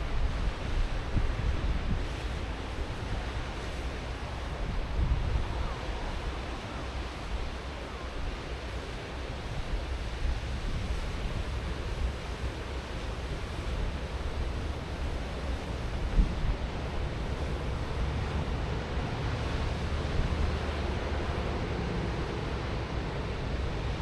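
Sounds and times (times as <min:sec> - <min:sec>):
wind gusting against microphone: 0:00.0 - 0:24.0
ocean waves breaking: 0:02.0 - 0:24.0.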